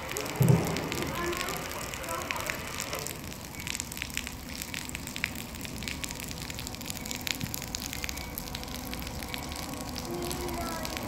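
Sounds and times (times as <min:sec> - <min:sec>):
rain falling: 0:00.0 - 0:11.0
raindrops ticking nearby: 0:00.0 - 0:11.0.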